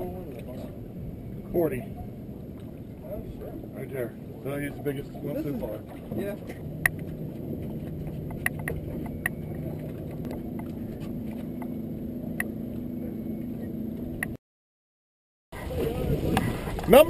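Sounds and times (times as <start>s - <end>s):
boat motor humming: 0.0s - 14.4s.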